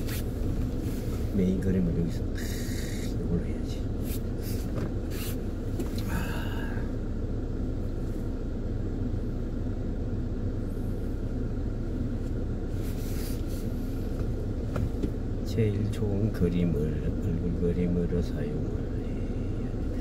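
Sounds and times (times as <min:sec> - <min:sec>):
car engine rumble inside cabin: 0:00.0 - 0:20.0.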